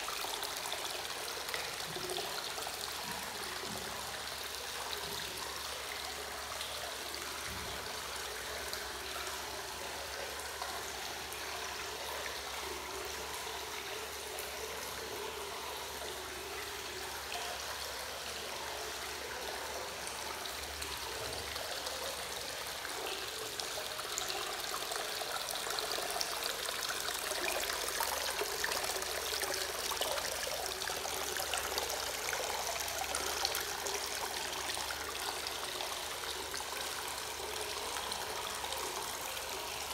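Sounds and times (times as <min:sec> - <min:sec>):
water pouring into a bath: 0:00.0 - 0:39.9.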